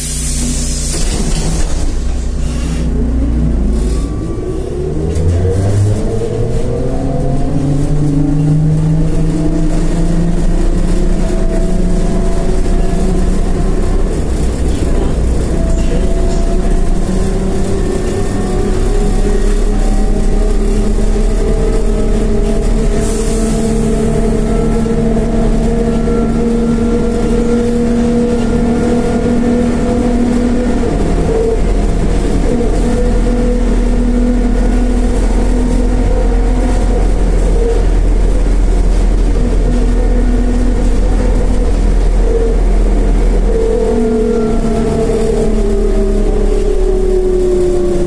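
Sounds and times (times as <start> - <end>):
low road rumble: 0.0 - 48.0.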